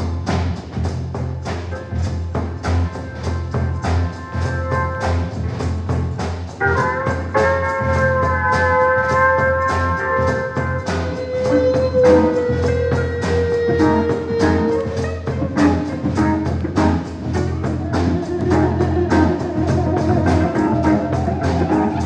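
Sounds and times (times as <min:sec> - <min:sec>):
percussion beat: 0:00.0 - 0:22.0.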